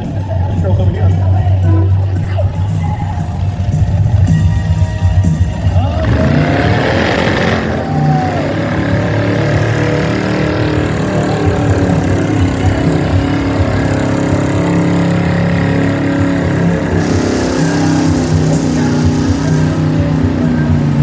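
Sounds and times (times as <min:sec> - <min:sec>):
car engine revving: 0:00.0 - 0:21.0
rushing burst: 0:01.9 - 0:21.0.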